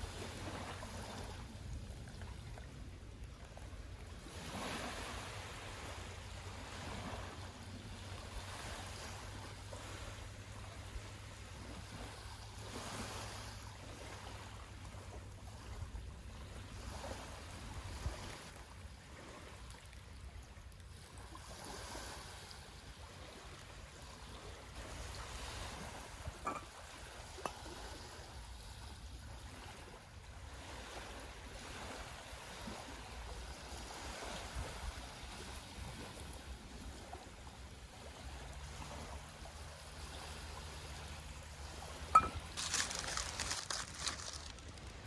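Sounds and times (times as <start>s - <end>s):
sea waves washing onto beach: 0.0s - 45.0s.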